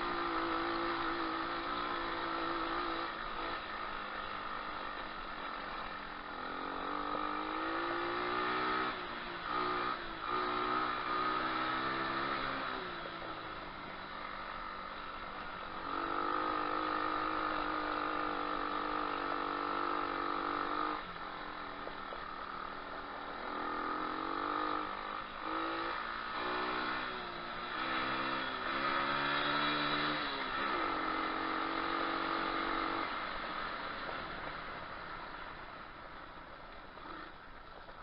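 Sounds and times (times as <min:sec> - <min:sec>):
motorbike engine revving: 0:00.0 - 0:35.9, 0:36.9 - 0:37.6.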